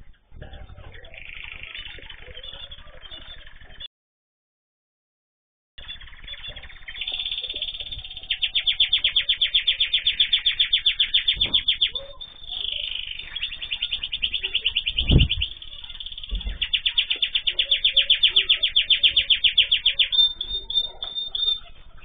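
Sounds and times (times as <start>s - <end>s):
small birds trilling: 0.0s - 3.9s, 5.8s - 22.0s
soft bird chirps: 0.0s - 3.9s, 5.8s - 22.0s.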